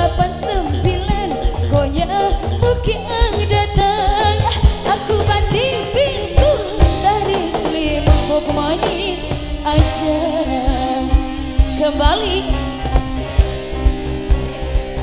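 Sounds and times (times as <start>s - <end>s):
woman singing: 0.0s - 13.1s
bass guitar: 0.0s - 15.0s
drum kit hits: 0.0s - 15.0s
electric guitars: 0.0s - 15.0s.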